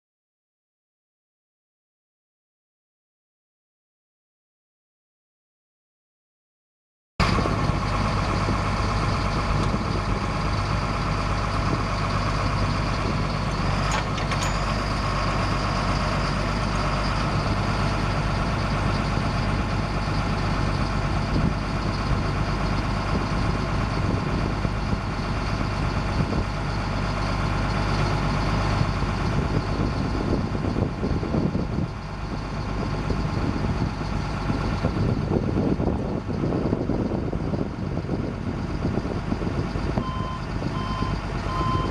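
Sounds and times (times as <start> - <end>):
diesel truck idling: 7.2 - 41.9.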